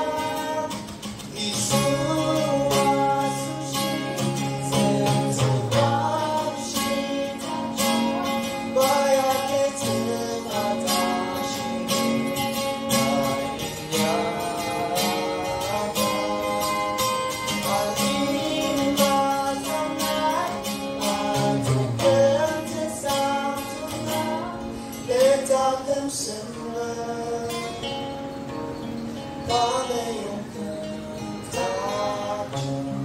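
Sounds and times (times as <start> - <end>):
people singing gospel song: 0.0 - 27.7, 29.5 - 33.0
strummed acoustic guitar: 0.0 - 33.0.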